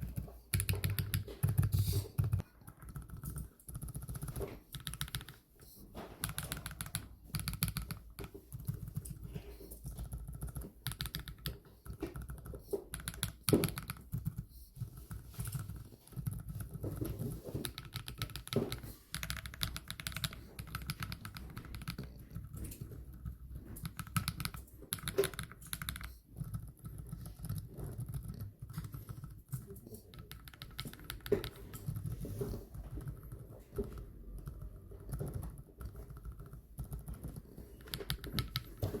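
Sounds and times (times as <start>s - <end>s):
mechanical keyboard typing: 0.0s - 39.0s.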